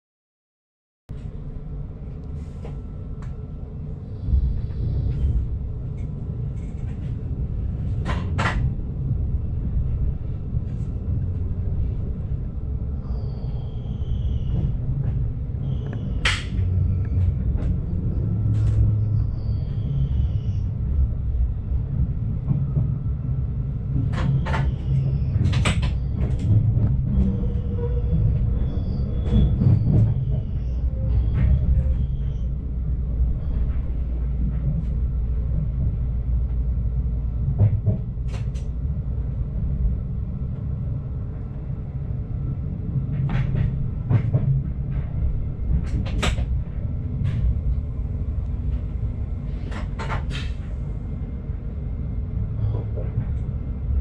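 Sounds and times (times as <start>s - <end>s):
train engine low rumble: 1.1s - 54.0s.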